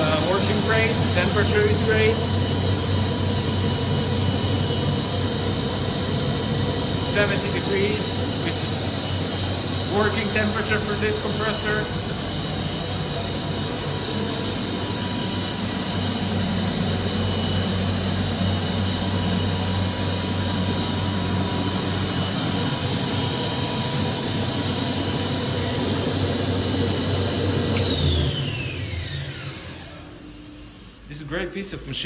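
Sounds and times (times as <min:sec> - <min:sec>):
motor winding down: 0:00.0 - 0:31.2
air compressor whine and hum: 0:00.0 - 0:32.0.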